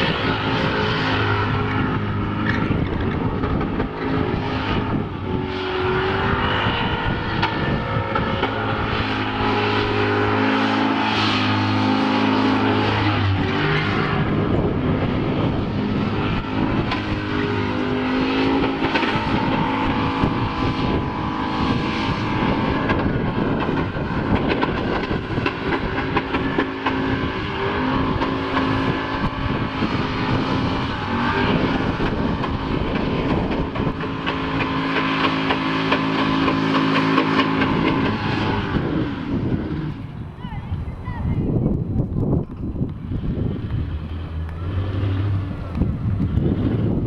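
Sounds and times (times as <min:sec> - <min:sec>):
car engine running: 0:00.0 - 0:40.2
road and wind noise: 0:00.0 - 0:47.0.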